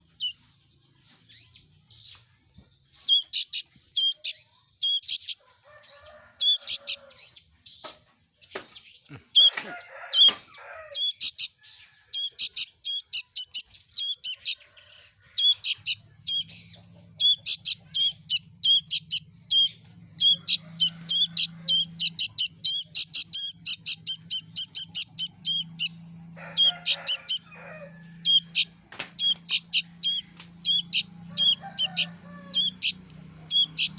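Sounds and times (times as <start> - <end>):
baby birds chirping: 2.9 - 8.7, 9.4 - 33.9.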